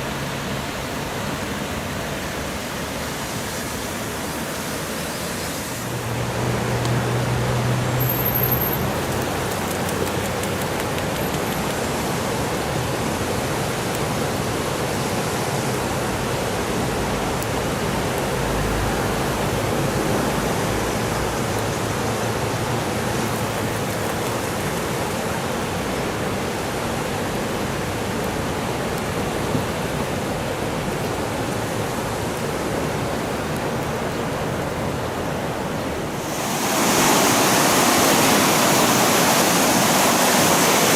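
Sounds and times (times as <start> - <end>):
floodwater rushing through sluice gate: 0.0 - 40.9.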